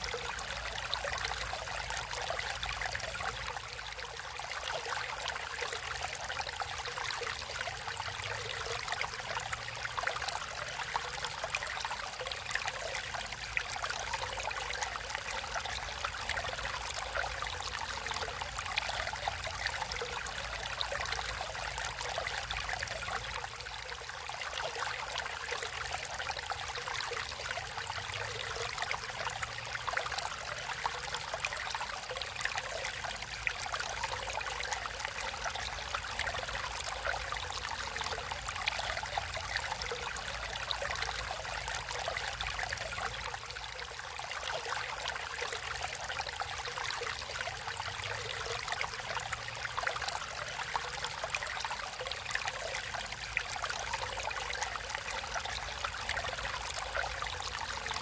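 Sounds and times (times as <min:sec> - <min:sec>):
stream running and trickling: 0:00.0 - 0:58.0.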